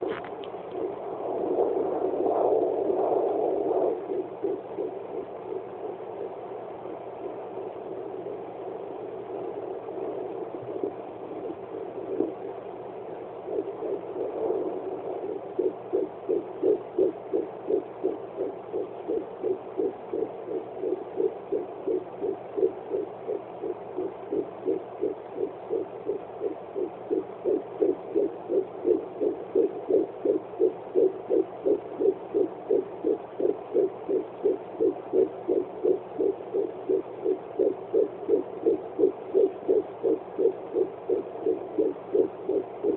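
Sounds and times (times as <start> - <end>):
fetal heartbeat whooshing pulses: 0.0 - 42.9.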